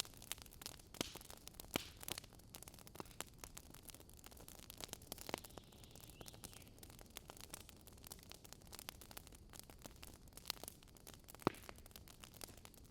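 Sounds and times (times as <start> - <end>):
campfire crackling and popping: 0.0 - 12.9.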